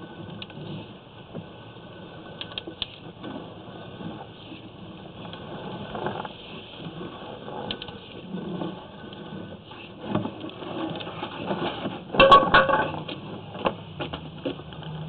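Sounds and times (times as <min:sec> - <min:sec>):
cable rustling and scraping: 0:00.0 - 0:15.0.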